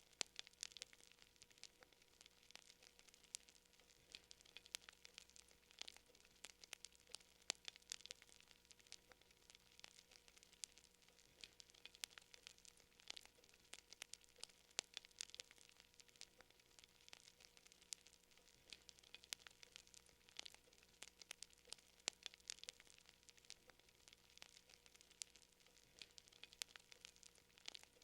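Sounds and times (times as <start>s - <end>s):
fire crackling: 0.0s - 28.0s.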